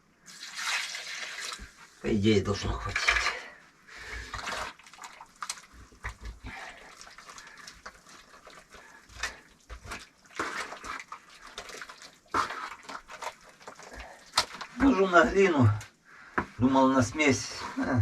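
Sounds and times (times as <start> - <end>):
wet clay squelching and scraping: 2.7 - 18.0.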